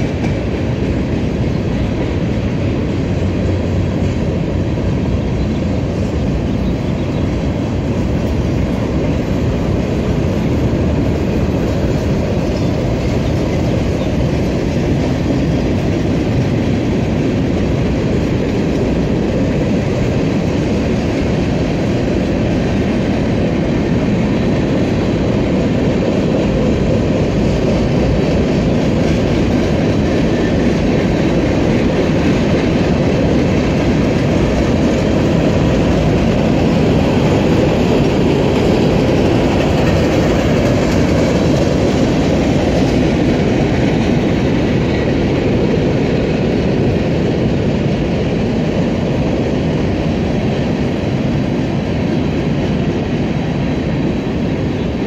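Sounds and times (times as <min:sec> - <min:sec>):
freight train cars rolling past: 0:00.0 - 0:55.0.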